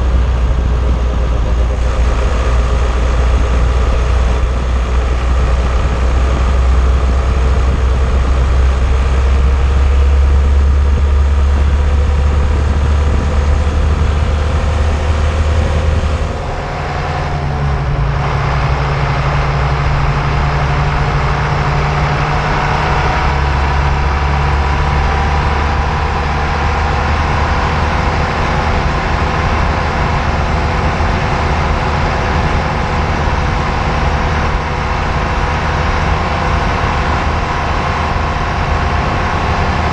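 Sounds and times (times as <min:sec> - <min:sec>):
car drivetrain noise: 0:00.0 - 0:39.9.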